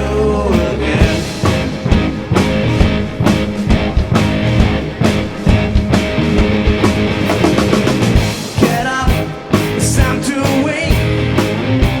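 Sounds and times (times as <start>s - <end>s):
bass guitar: 0.0s - 12.0s
electric guitar: 0.0s - 12.0s
drum kit steady beat: 0.5s - 12.0s.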